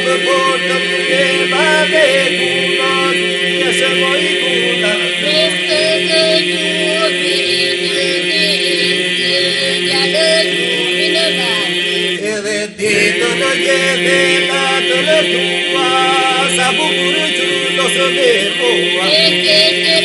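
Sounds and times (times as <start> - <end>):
held vocal drone: 0.0 - 20.0
ornamented solo singing: 0.0 - 20.0.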